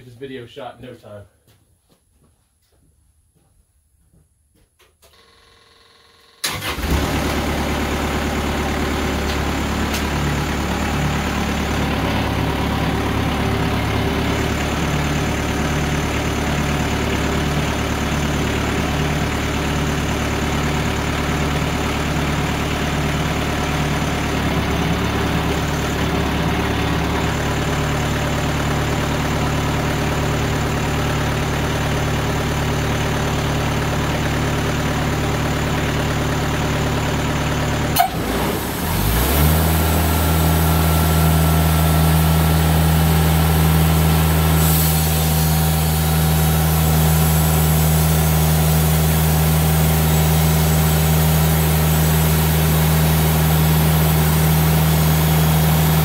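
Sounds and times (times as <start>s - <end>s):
sawmill engine idling: 6.4s - 56.0s.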